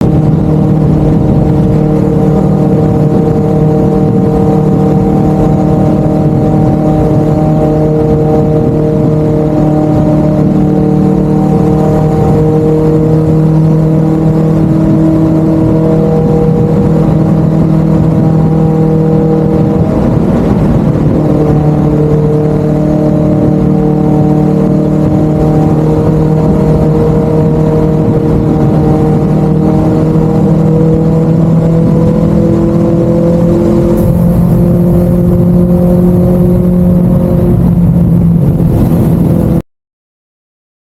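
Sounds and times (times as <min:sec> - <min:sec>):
motorcycle exhaust drone: 0:00.0 - 0:39.6.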